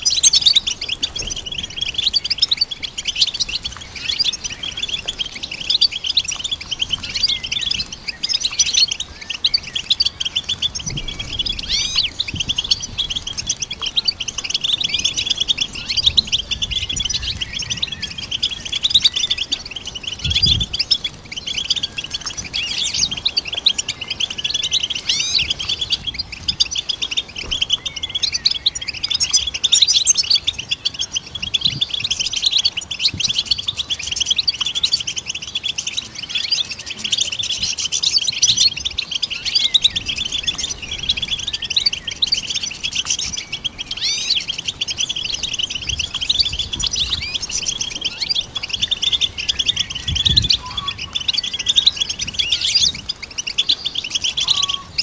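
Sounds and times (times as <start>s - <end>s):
finch twittering song: 0.0s - 55.0s.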